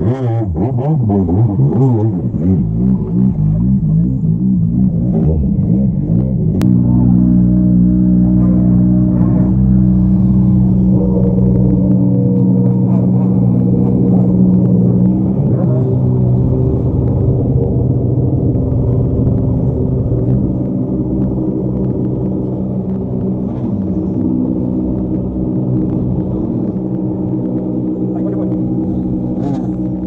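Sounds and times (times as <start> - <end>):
rally car engines idling: 0.0 - 30.0.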